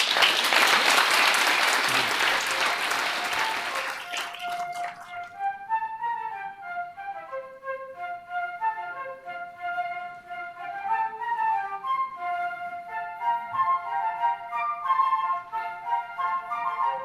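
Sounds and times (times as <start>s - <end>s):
flutes playing in harmony: 1.9s - 17.0s.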